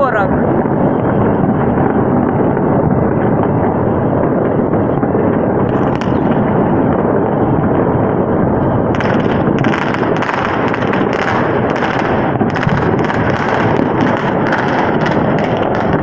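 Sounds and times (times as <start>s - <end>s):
distant fireworks banging: 0.0s - 16.0s
fireworks crackling: 0.0s - 16.0s.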